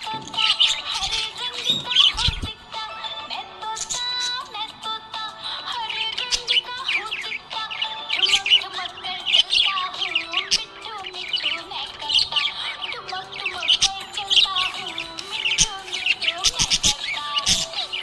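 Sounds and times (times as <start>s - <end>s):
background song: 0.0s - 18.0s
budgerigar chirping and warbling: 0.0s - 18.0s.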